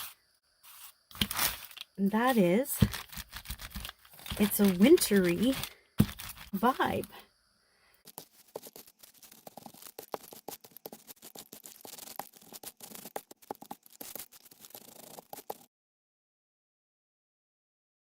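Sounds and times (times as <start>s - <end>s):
paper scratching and rustling: 0.0s - 7.1s, 8.1s - 15.7s.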